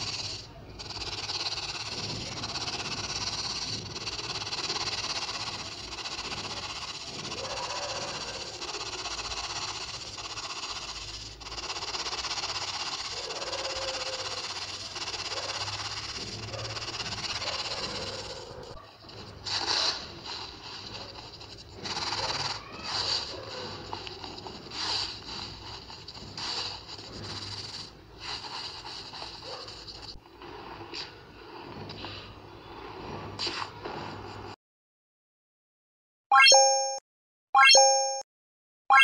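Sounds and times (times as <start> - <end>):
powder rubbed through sieve mesh: 0.0 - 34.6.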